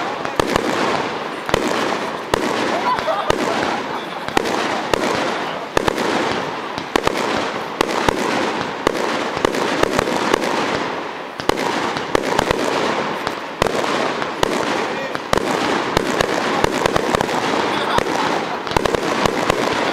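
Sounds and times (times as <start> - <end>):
fireworks cracks and bangs: 0.0 - 19.9
fireworks hissing: 0.0 - 19.9.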